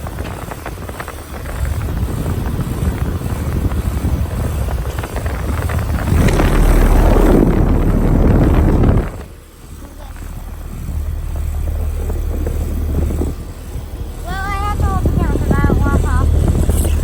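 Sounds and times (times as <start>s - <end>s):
air conditioner unit rattling: 0.0s - 17.0s.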